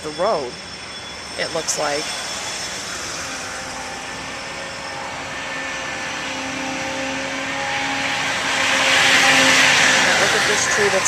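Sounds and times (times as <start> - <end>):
car road and engine noise: 1.0 - 11.0.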